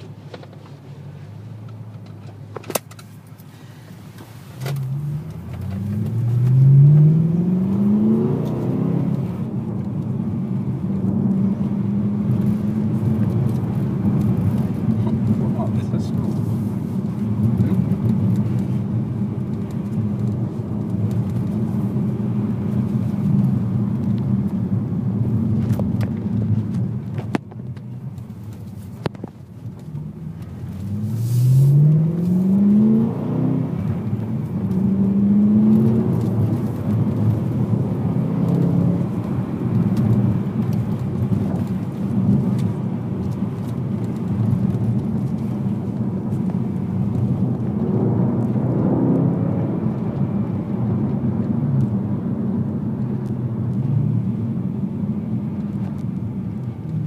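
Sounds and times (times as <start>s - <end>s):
car engine under load: 0.0s - 57.0s.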